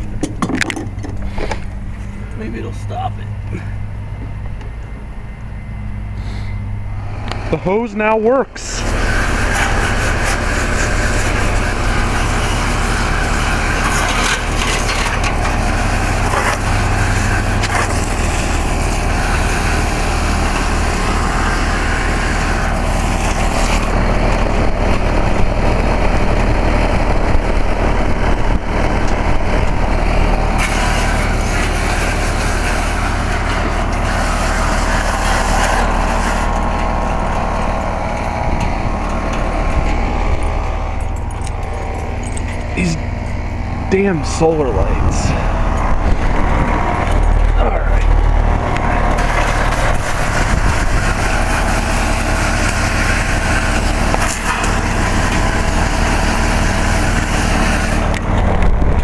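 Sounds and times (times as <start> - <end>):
compressor hum: 0.0 - 59.0
condenser fan rushing: 0.0 - 59.0.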